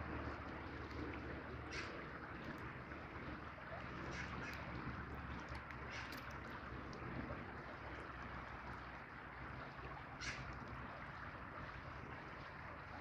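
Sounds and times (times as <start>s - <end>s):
river flowing over stones: 0.0s - 13.0s.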